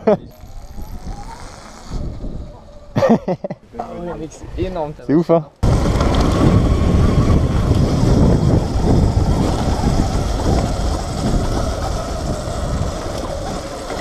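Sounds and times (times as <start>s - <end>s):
wind buffeting microphone: 0.0s - 3.1s, 5.6s - 14.0s.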